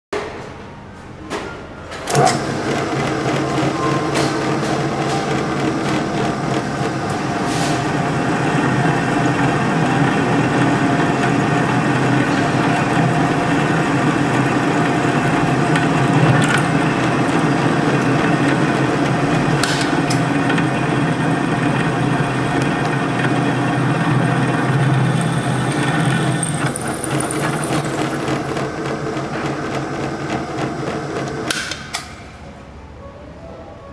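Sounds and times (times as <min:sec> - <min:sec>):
electric drill running: 0:02.1 - 0:31.5.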